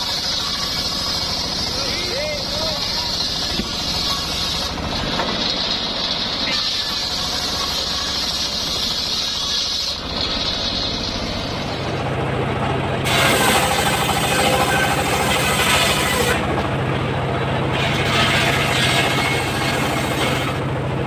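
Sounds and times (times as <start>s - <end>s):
saw blade cutting log: 0.0s - 12.2s, 13.0s - 16.7s, 17.6s - 20.7s
sawmill engine drone: 0.0s - 21.0s
spinning saw blade whine: 0.0s - 21.0s.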